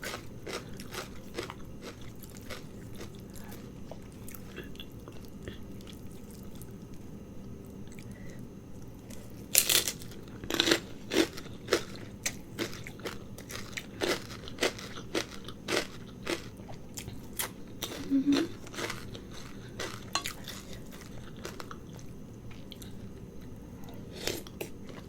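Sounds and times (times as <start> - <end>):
loud crunching of crisp food: 0.0 - 6.7, 9.1 - 23.0
person chewing noodles: 0.0 - 7.1, 7.8 - 25.0.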